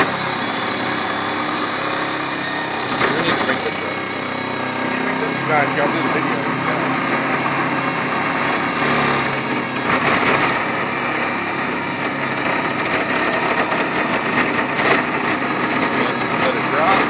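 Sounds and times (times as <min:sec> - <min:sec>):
washer rollers mechanical whir: 0:00.0 - 0:17.0.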